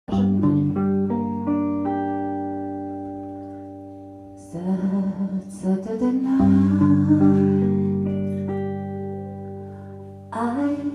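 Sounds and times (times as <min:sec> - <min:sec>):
guitar playing: 0:00.1 - 0:10.9.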